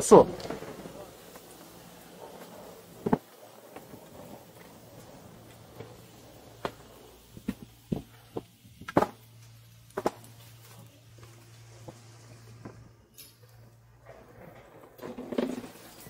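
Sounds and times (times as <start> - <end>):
lift machinery hum: 0.0 - 16.0
skis and chair clacking: 0.0 - 16.0.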